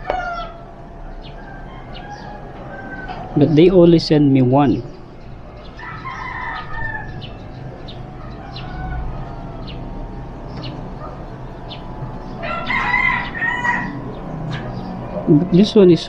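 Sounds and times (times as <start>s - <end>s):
rooster crowing: 0.0s - 3.8s, 5.4s - 15.3s.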